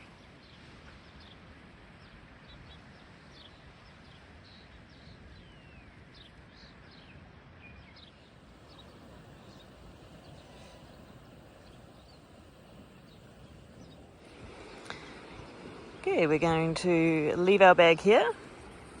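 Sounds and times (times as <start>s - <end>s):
wind rumble on microphone: 0.0s - 19.0s
small birds chirping: 2.0s - 19.0s.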